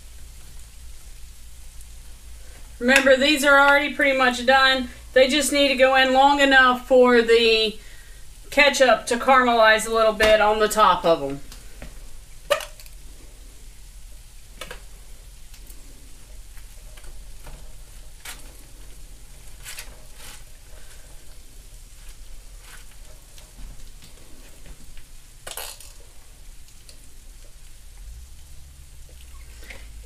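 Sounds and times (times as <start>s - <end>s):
faint sizzle: 0.0s - 30.0s.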